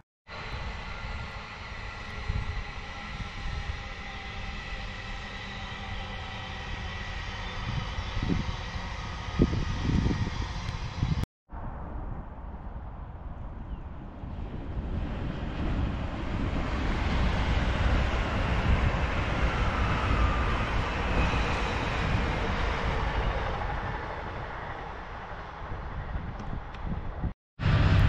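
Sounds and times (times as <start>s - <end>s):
high-speed train passing: 0.3s - 28.0s.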